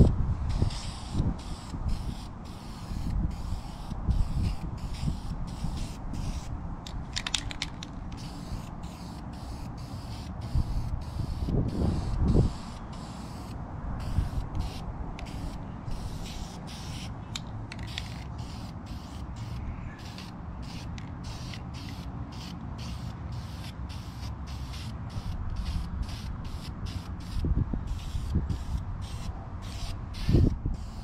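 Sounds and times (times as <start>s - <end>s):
aerosol can spraying bursts: 0.5s - 6.5s, 8.2s - 17.1s, 17.9s - 31.0s.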